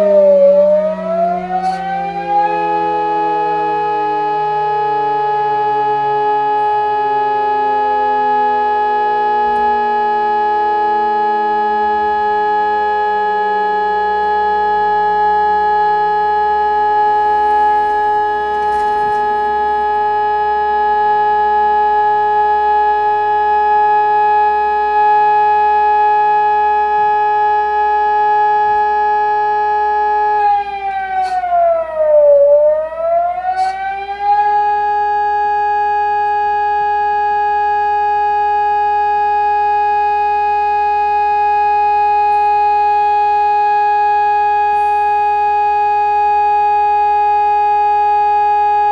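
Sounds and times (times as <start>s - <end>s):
lower siren tone gliding down: 0.0s - 48.9s
siren high steady tone: 0.0s - 48.9s.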